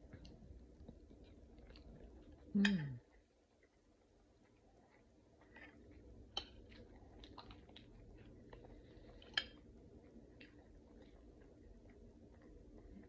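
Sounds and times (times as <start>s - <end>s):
chewing food: 0.0s - 13.0s.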